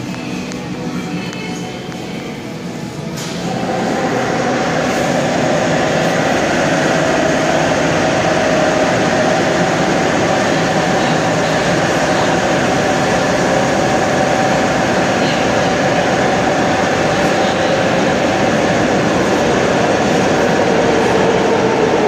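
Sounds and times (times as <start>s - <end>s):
train machinery humming: 0.0s - 22.0s.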